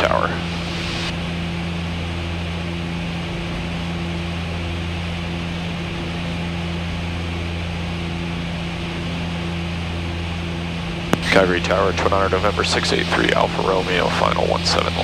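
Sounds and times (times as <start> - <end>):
turboprop cockpit drone: 0.0 - 15.0.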